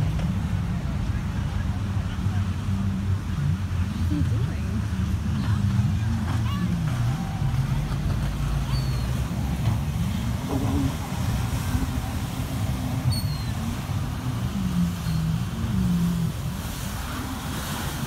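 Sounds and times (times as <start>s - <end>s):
jet ski engines: 0.0s - 18.0s.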